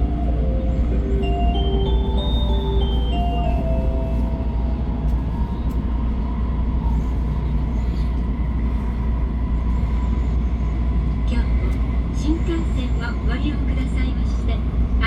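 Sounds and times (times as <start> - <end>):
train low rumble from inside: 0.0 - 15.0.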